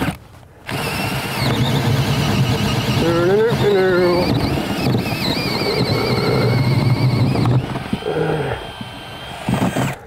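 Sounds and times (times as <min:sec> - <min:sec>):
cordless drill boring through wood: 0:00.0 - 0:10.0.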